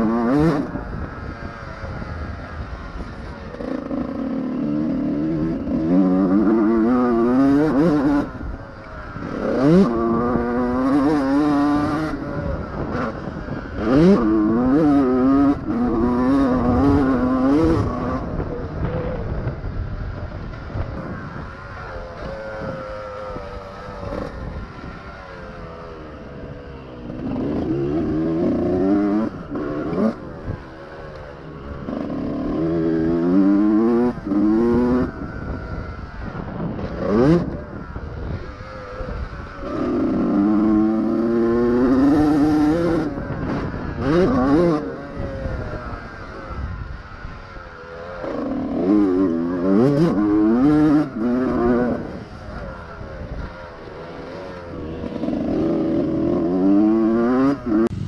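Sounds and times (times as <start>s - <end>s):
motocross engine revving: 0.0s - 58.0s.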